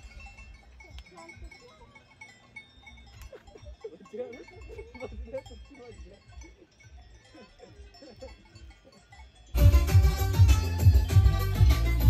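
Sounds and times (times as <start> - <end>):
cowbells clinking faintly: 0.0 - 12.0.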